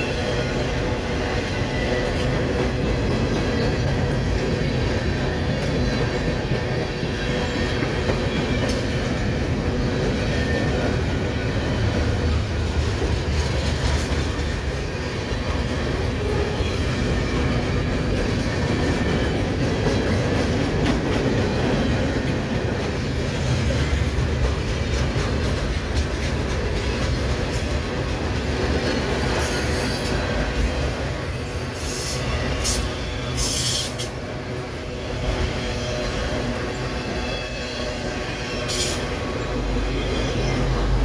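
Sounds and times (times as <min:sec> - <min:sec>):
freight cars rolling on rails: 0:00.0 - 0:41.0.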